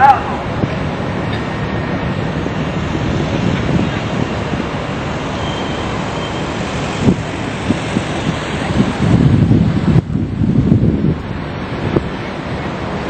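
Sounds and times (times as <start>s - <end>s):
outdoor rumble and rushing: 0.0s - 13.0s.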